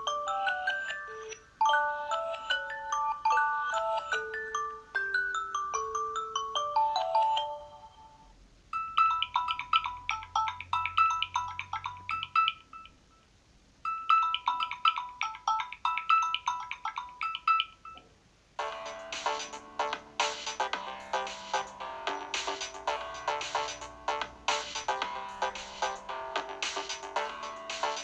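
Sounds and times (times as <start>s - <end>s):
rich phone ringtone melody: 0.0s - 12.9s, 13.9s - 18.0s, 18.6s - 28.0s
high chiming ringtone: 0.0s - 13.0s, 13.9s - 18.0s, 18.6s - 28.0s.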